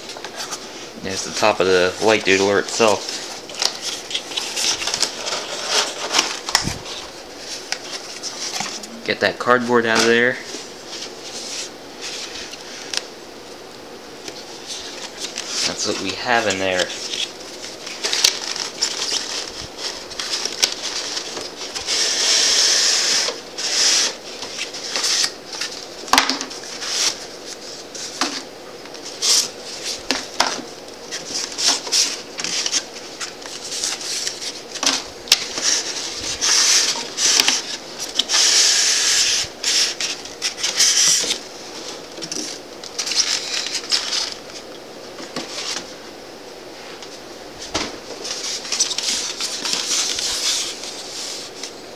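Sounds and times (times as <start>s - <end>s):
scratchy hiss: 0.0s - 13.1s, 14.2s - 28.4s, 29.0s - 44.7s.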